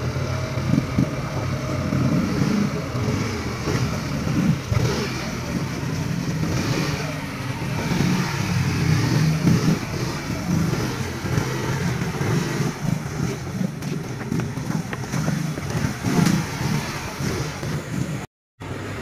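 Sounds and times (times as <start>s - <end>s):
scooter engines running: 0.0s - 19.0s.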